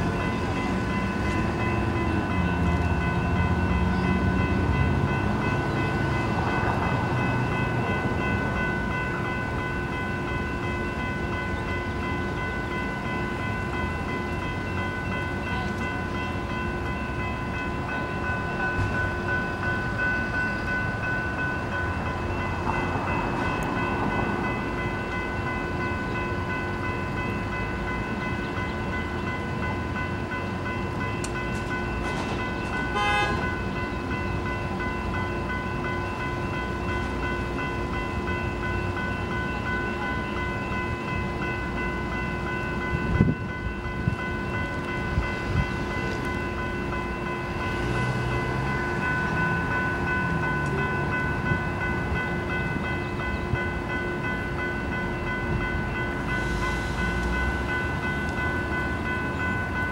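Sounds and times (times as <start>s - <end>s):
railroad crossing bells ringing: 0.0s - 59.9s.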